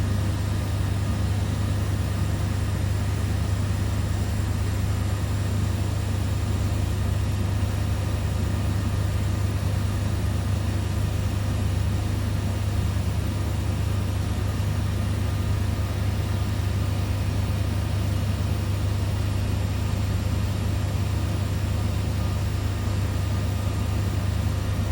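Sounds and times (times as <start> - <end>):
laboratory equipment humming: 0.0 - 24.9.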